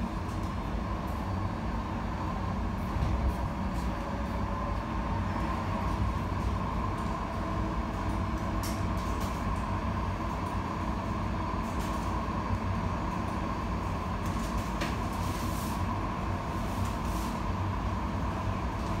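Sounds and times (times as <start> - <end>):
constant hum: 0.0 - 19.0.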